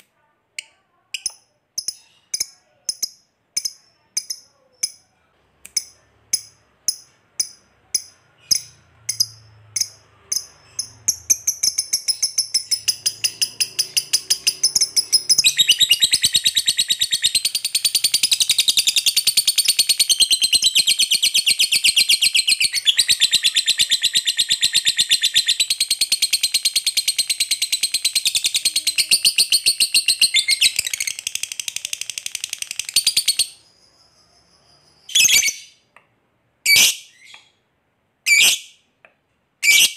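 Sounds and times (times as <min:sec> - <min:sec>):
lovebird chirping and trilling: 0:01.1 - 0:05.0, 0:05.7 - 0:35.9, 0:36.6 - 0:37.6, 0:38.3 - 0:38.8, 0:39.6 - 0:39.9.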